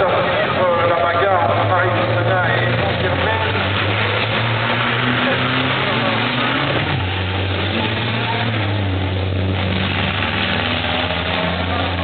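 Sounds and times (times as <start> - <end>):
truck engines droning: 0.0 - 12.0.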